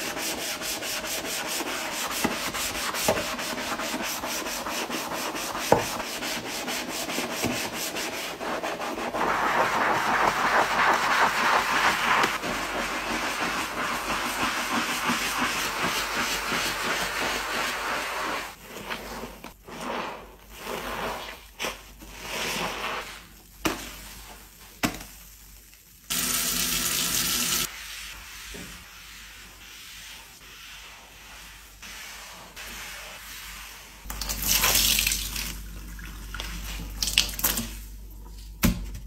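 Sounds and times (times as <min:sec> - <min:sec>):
sponge scrubbing a sink: 0:00.0 - 0:24.7, 0:26.1 - 0:38.0.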